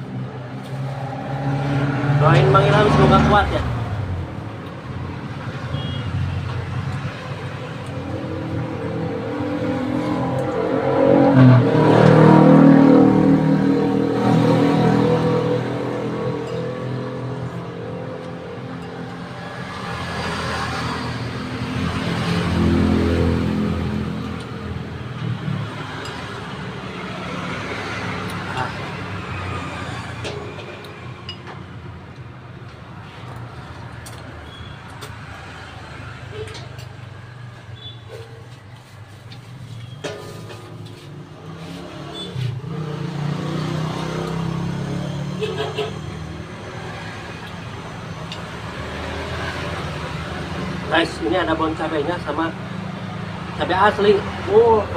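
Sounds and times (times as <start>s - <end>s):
traffic hum: 0.0s - 54.9s
vehicle engine passing by: 0.1s - 4.4s, 6.9s - 31.2s, 38.8s - 54.9s.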